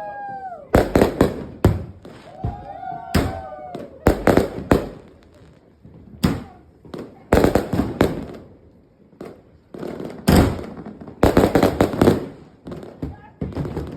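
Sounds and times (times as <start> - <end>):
fireworks bangs with echoes: 0.0 - 13.9.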